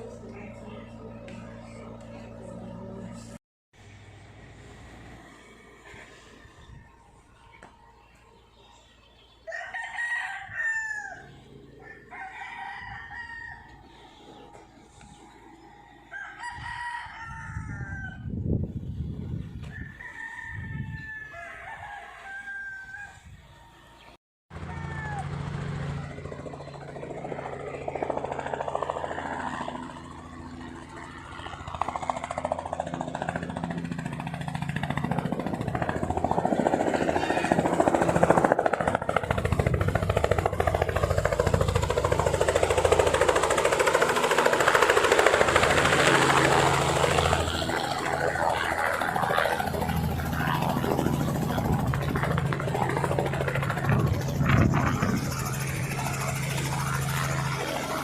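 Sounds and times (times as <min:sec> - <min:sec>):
helicopter engine and rotor: 0:00.0 - 0:09.0, 0:11.3 - 0:16.2, 0:24.6 - 0:58.0.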